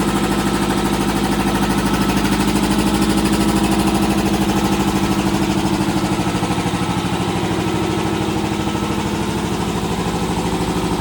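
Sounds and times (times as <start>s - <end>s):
air compressor pump pulsing: 0.0s - 11.0s.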